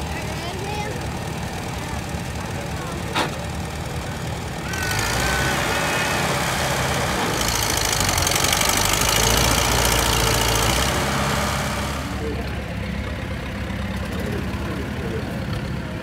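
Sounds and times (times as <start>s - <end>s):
tractor engine under load: 0.0s - 16.0s.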